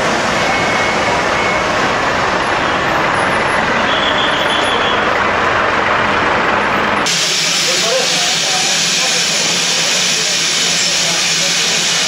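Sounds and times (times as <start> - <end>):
vehicles driving past: 0.0 - 10.3.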